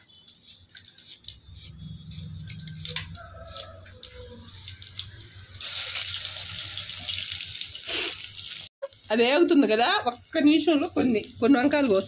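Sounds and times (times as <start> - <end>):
onion sizzling in hot oil: 1.4 - 12.0.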